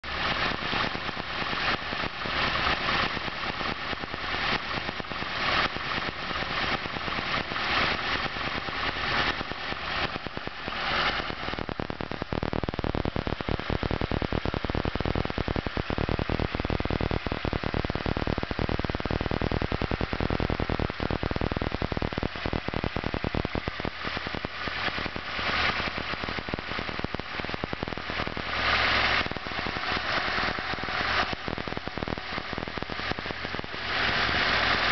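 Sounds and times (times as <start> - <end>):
car engine idling unevenly: 0.0 - 34.9.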